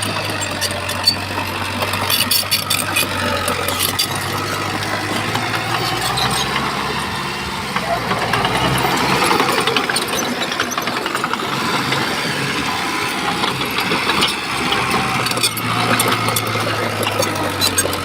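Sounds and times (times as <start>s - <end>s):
diesel engine running: 0.0s - 18.0s
sharp clicks and clatters: 0.0s - 18.0s.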